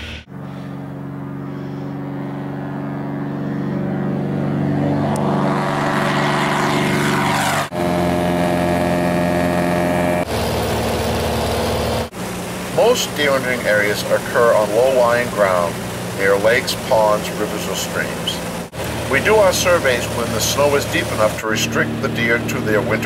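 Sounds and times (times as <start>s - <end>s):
engine heard from inside cabin: 0.0s - 23.0s
propeller airplane taking off: 0.0s - 23.0s.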